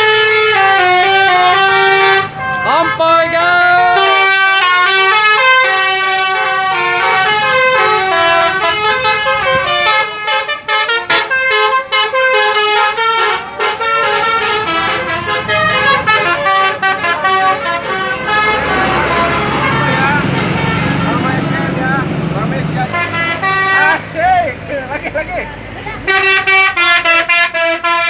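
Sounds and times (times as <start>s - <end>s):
musical air horn tune: 0.0s - 21.7s, 22.8s - 24.1s, 26.1s - 28.0s.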